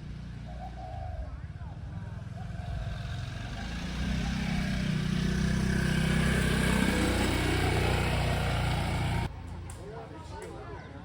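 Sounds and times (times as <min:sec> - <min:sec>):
vehicle engine running: 0:00.0 - 0:09.3
street noise: 0:00.0 - 0:11.0.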